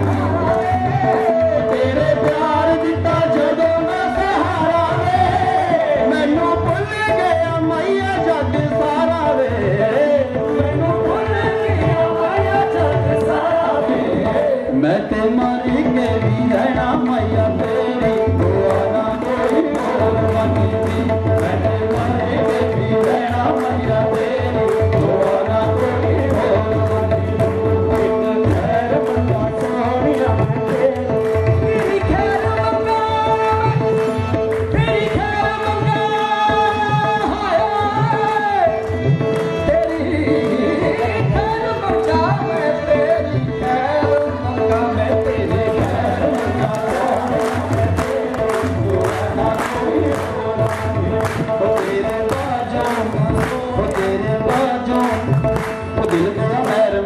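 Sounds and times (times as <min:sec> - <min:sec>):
hand-clapping: 0:00.0 - 0:14.3, 0:15.3 - 0:57.0
harmonium holding notes: 0:00.0 - 0:57.0.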